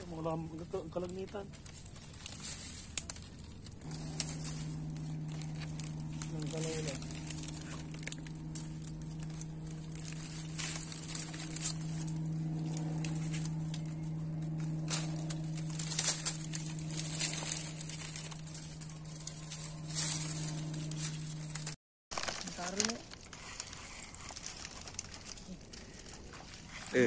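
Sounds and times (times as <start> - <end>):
dry palm fronds rustling: 0.0 - 27.0
steady low hum: 0.0 - 27.0.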